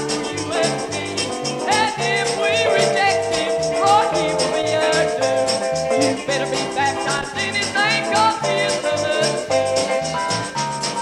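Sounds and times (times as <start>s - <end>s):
gospel group singing: 0.0s - 10.8s
bass line: 0.0s - 11.0s
steady beat: 0.0s - 11.0s.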